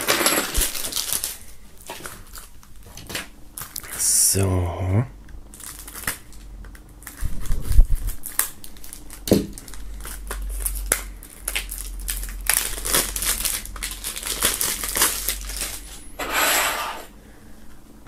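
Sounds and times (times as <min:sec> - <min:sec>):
shrink-wrap crinkling: 0:00.0 - 0:04.4, 0:05.5 - 0:16.2.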